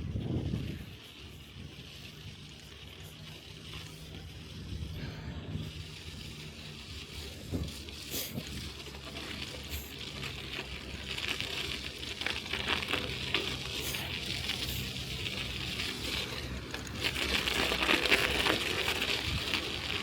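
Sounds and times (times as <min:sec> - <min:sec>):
bicycle tyres rolling over snow: 0:00.0 - 0:20.0.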